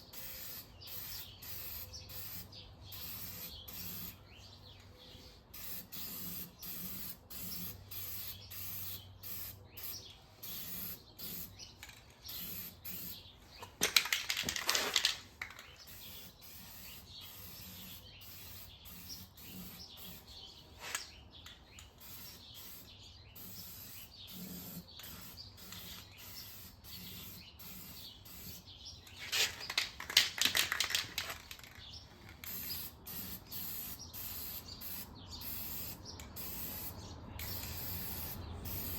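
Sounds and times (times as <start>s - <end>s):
spray paint can hissing: 0.0s - 4.2s, 5.2s - 13.2s, 13.8s - 21.1s, 22.0s - 31.8s, 32.4s - 38.9s.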